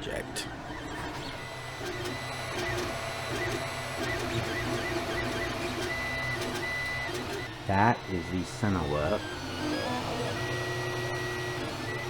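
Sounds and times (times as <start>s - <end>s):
printer stepper motors whining: 0.0s - 12.0s.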